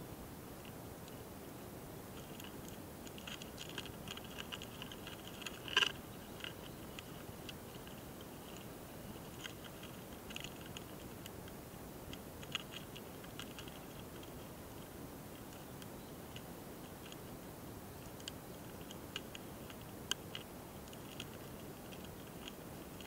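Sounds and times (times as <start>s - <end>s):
beetles ticking and clicking: 2.1s - 23.0s.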